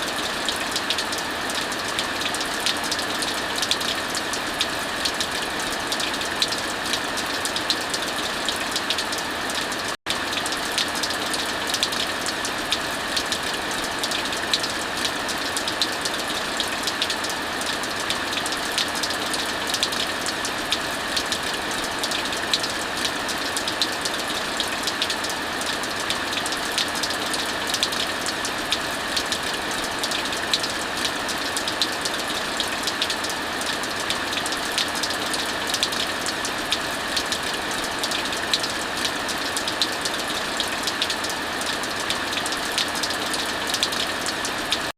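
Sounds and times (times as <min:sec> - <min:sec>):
heavy rainfall: 0:00.0 - 0:44.9.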